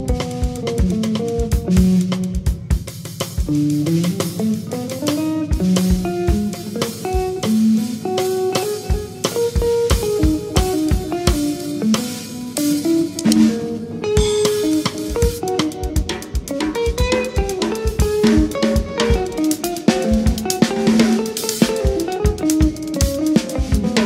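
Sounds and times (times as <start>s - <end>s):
drum kit: 0.0s - 24.0s
guitar lines: 0.0s - 24.0s
jazz band playing: 0.0s - 24.0s.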